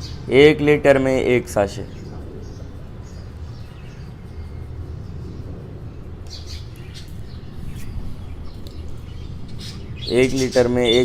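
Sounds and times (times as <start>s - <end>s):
low steady rumble: 0.0s - 10.9s
small birds chirping: 0.0s - 11.0s.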